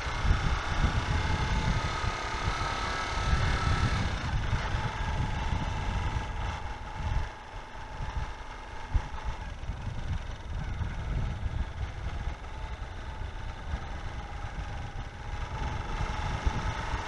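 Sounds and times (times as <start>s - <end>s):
motorcycle engine running: 0.0s - 17.0s
thin whine from motorcycle: 0.0s - 17.0s
wind buffeting microphone: 0.0s - 17.0s.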